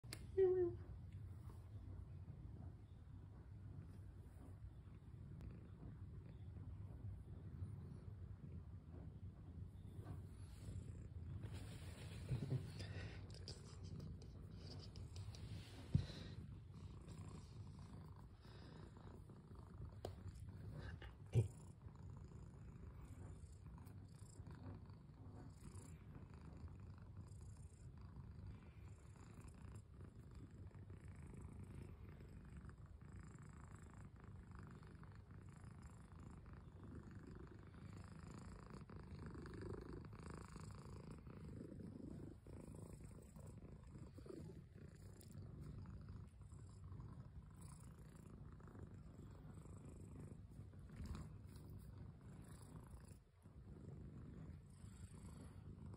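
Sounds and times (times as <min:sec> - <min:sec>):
cat purring: 0:00.0 - 0:55.9.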